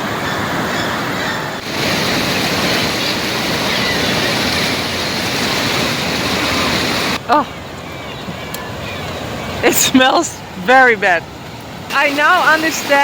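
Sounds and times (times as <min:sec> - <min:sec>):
water rushing over dam: 0:00.0 - 0:13.0.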